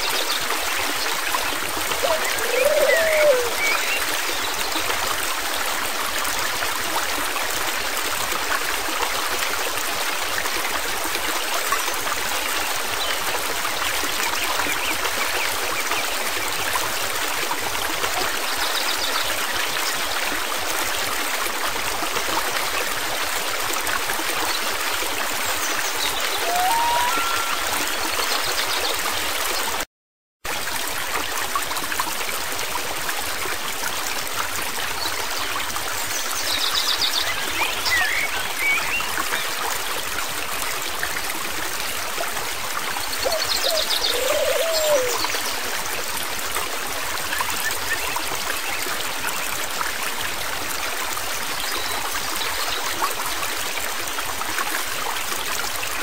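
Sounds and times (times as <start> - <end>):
stream flowing: 0.0 - 29.9, 30.5 - 56.0.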